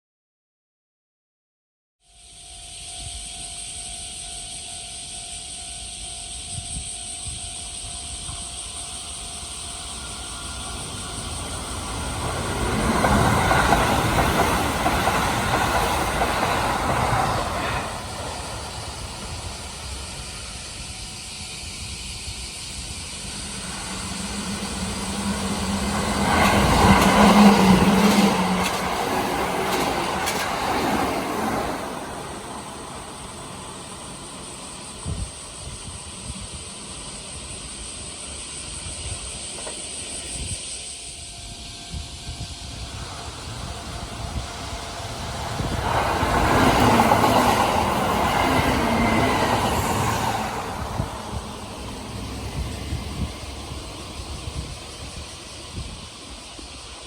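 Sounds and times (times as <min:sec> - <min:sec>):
electric trains passing: 0:02.1 - 0:57.0.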